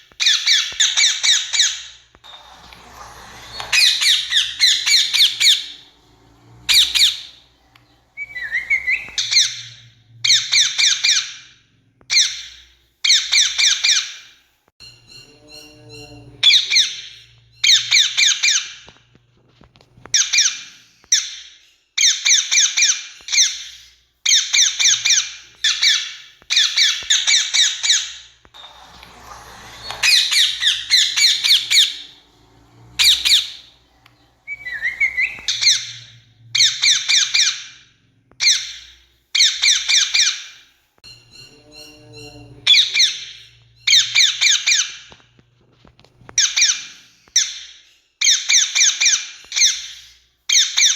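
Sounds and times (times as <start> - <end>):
parakeet screeching: 0.2 - 14.2, 14.9 - 18.9, 20.1 - 45.2.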